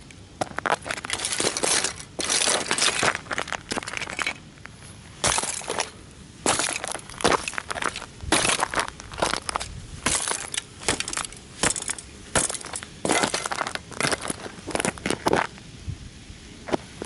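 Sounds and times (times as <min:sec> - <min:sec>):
toy car crunching under stomps: 0:00.4 - 0:15.5.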